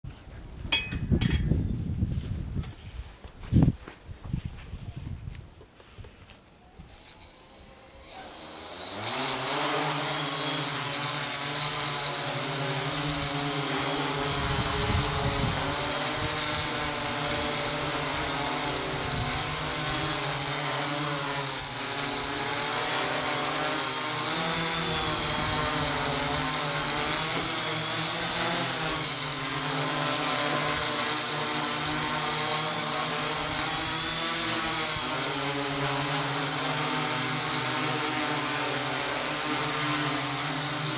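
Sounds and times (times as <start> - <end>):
high propeller whine: 6.8 - 40.9
multirotor drone buzzing: 6.8 - 40.9.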